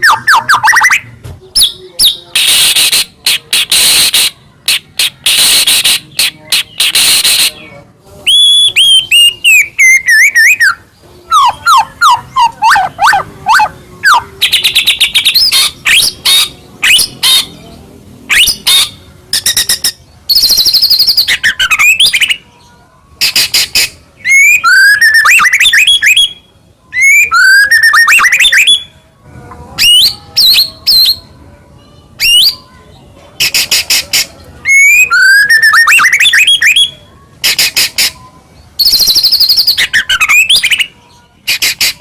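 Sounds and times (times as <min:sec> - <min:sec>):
bird singing whistled notes: 0:00.0 - 0:17.5, 0:18.3 - 0:22.4, 0:23.5 - 0:29.0, 0:29.8 - 0:31.4, 0:32.2 - 0:32.8, 0:34.6 - 0:37.7, 0:38.8 - 0:42.0.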